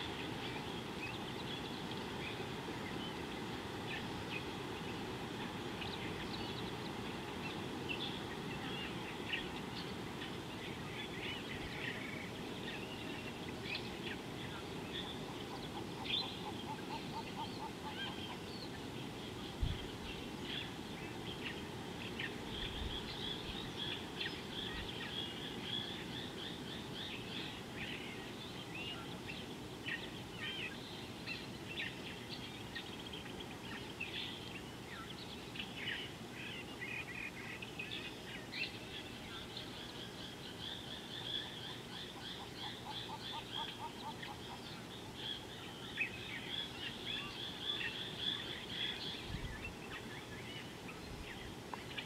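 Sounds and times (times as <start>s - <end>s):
birds chirping and trilling: 0.0s - 52.0s
low background noise: 0.0s - 52.0s.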